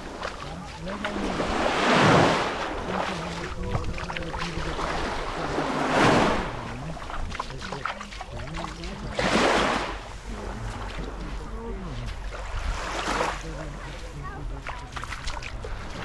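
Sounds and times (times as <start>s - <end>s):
small waves washing ashore: 0.0s - 16.0s.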